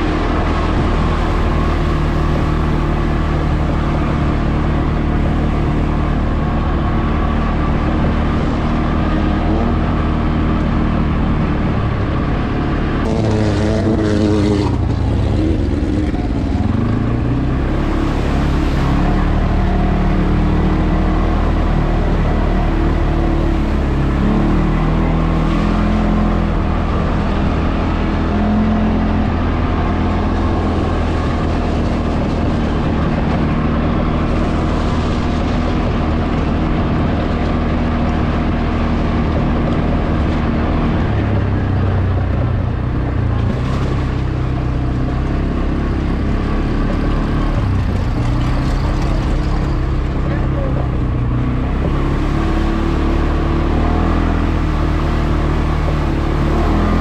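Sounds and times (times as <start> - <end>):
atv engine running: 0.0 - 57.0
steady rushing noise: 0.0 - 57.0.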